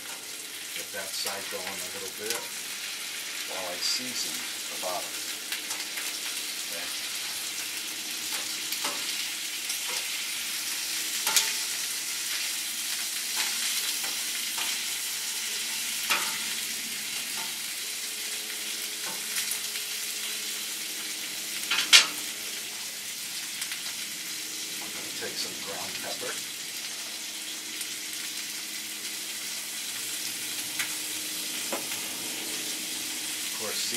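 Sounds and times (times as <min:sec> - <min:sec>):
food sizzling on a griddle: 0:00.0 - 0:33.9.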